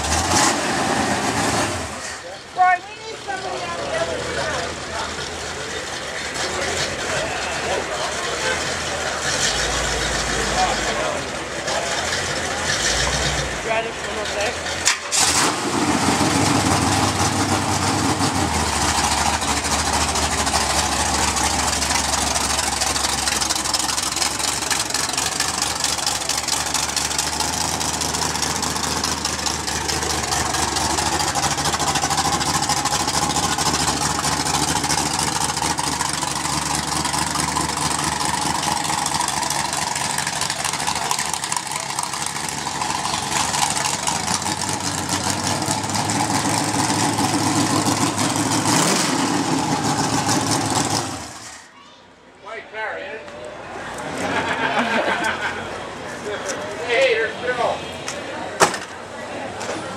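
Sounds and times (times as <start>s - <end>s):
engine idling through open headers: 0.9s - 51.7s.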